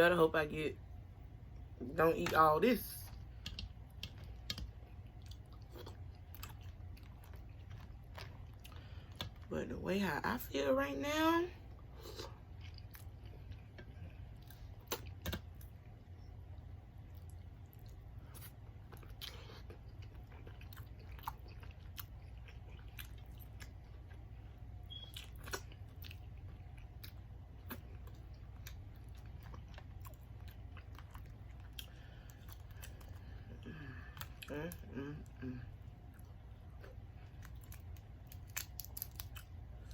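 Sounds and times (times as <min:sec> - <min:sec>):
low steady hum: 0:00.0 - 0:39.9
close-up chewing and crunching: 0:03.0 - 0:09.5, 0:11.7 - 0:39.9.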